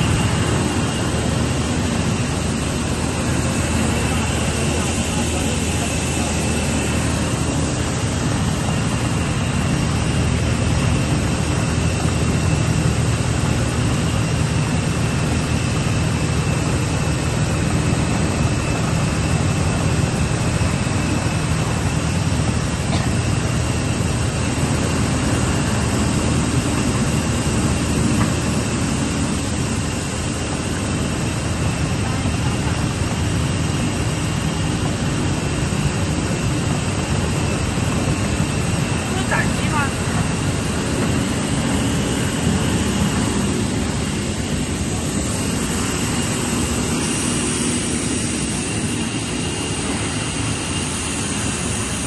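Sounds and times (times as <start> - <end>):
machine drone: 0.0 - 52.0.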